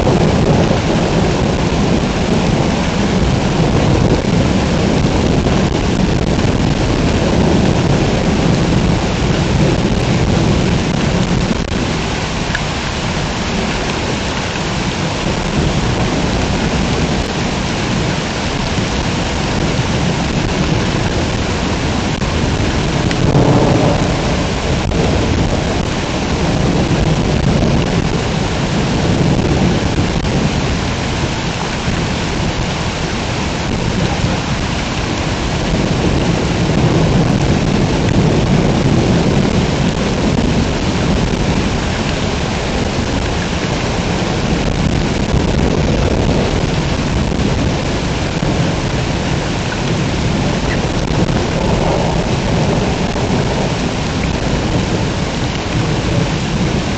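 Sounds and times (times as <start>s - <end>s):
heavy rain pouring: 0.0s - 56.9s
low thunder rumbling: 0.0s - 56.9s.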